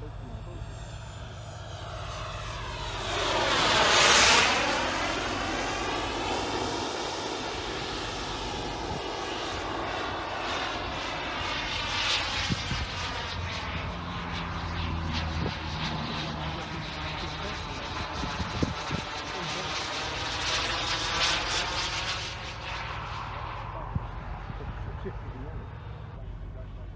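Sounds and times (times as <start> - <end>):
model jet turbine rushing: 0.0 - 26.9.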